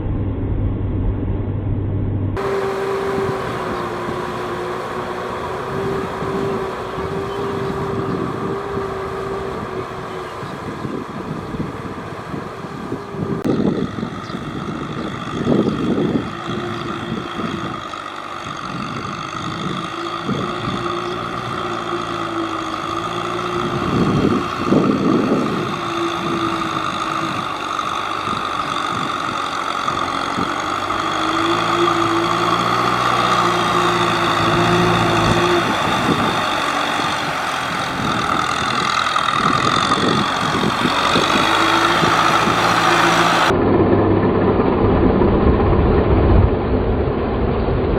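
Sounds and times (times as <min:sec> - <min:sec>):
tractor engine under load: 0:02.4 - 0:45.2.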